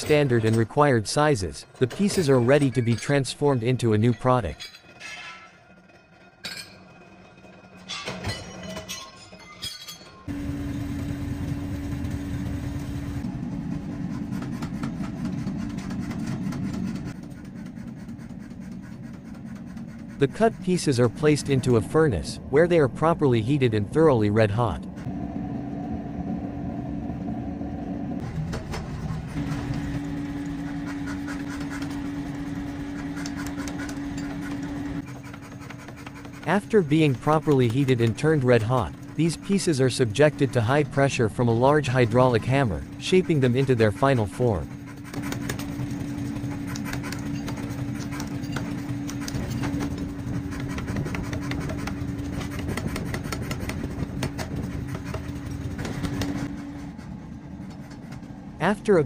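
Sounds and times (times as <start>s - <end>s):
machinery motor hum: 10.3s - 17.3s, 18.1s - 59.0s.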